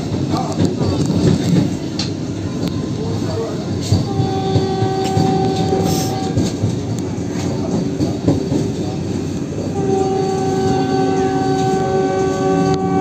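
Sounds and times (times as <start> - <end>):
electric train rumbling on rails: 0.0 - 13.0.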